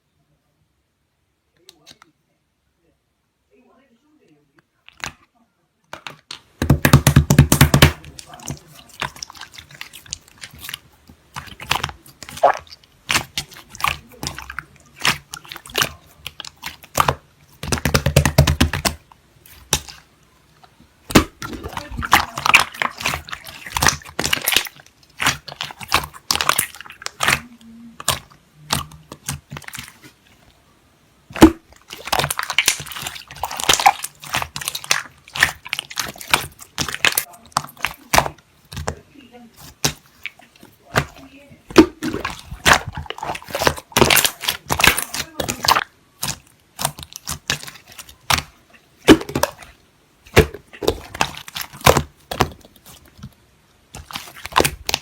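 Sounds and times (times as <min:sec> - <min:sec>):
slime squeezed by hand: 0:07.0 - 0:20.1, 0:21.0 - 0:30.4, 0:31.3 - 0:38.9, 0:39.6 - 0:53.3, 0:53.9 - 0:55.0.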